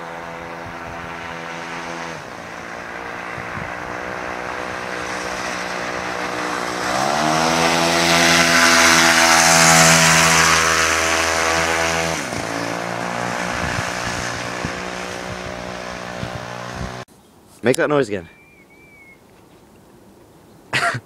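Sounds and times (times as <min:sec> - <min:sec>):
propeller whoosh: 0:00.0 - 0:17.1
two-stroke engine revving: 0:00.0 - 0:17.1.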